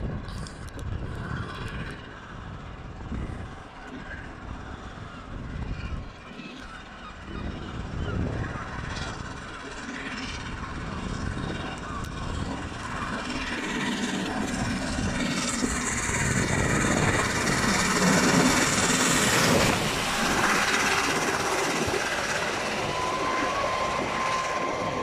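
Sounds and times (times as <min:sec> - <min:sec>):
coaches rumbling over rails: 0:00.0 - 0:25.0
steam locomotive passing: 0:00.0 - 0:25.0.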